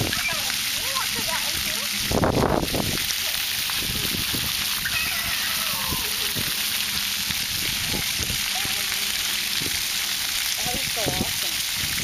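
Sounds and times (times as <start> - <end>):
fountain jets spraying pavement: 0.0 - 12.0.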